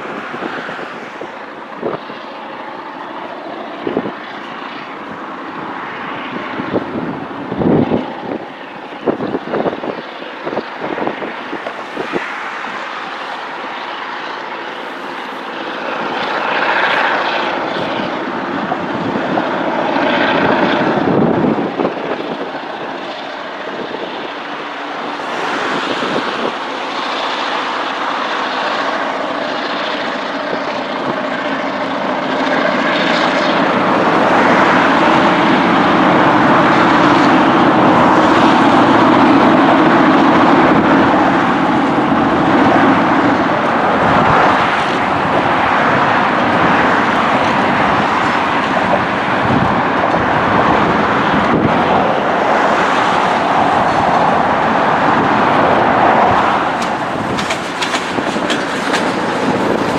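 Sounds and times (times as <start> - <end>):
locomotive diesel engine drone: 0.0 - 59.9
rolling rumble of train cars: 0.0 - 59.9.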